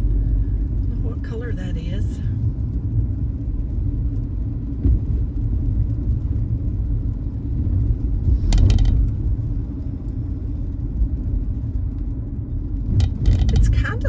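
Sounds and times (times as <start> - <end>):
car road rumble inside cabin: 0.0 - 14.0.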